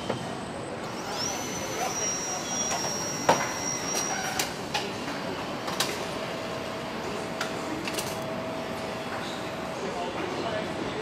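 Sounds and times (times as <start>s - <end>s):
high machine whine: 0.5s - 9.9s.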